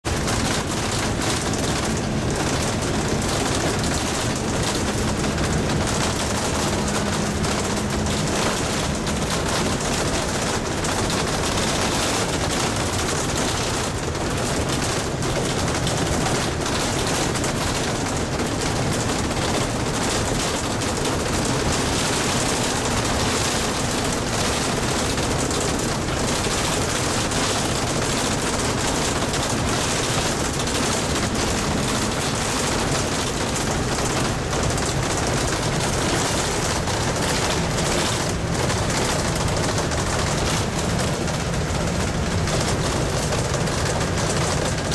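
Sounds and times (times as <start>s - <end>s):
bus rattling over bumpy road: 0.0s - 44.9s.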